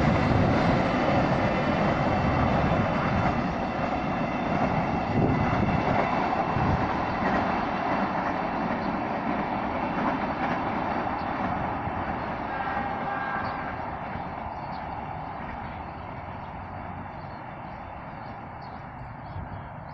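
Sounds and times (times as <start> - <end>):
freight train rolling past: 0.0 - 19.9.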